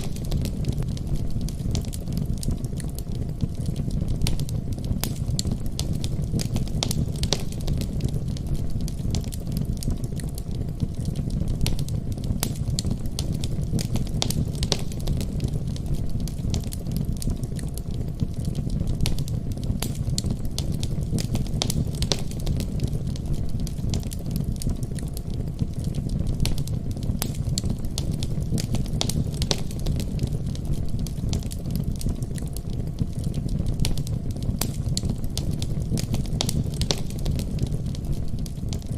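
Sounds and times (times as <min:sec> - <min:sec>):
fire roaring in fireplace: 0:00.0 - 0:38.9
wood fire crackling and popping: 0:00.0 - 0:38.9.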